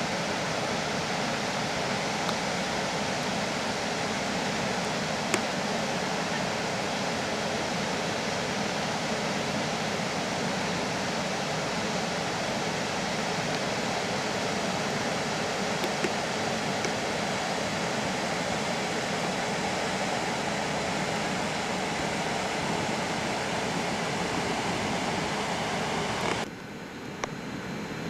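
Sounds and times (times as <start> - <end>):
muddy water rushing: 0.0 - 26.5.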